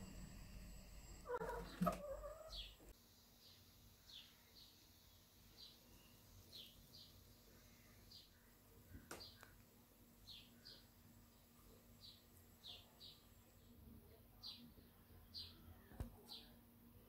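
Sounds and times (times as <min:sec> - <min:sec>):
small birds chirping: 0:01.3 - 0:16.6.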